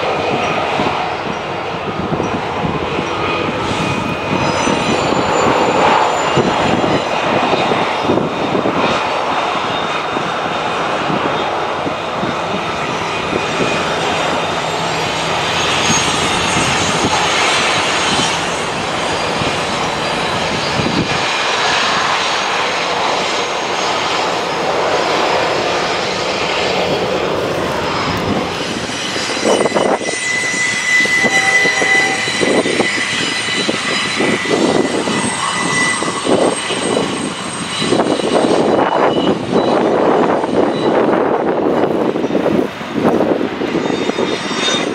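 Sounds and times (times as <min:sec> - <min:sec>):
high wheel squeal: 0:00.0 - 0:11.6, 0:12.2 - 0:44.9
train wheels rumbling on rail: 0:00.0 - 0:44.9.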